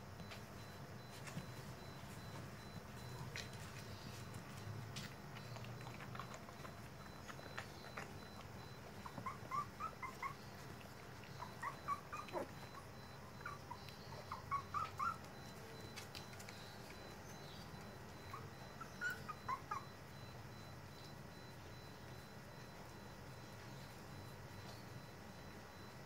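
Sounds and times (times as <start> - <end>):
faint low hum: 0.0 - 26.0
puppies whimpering: 0.6 - 26.0.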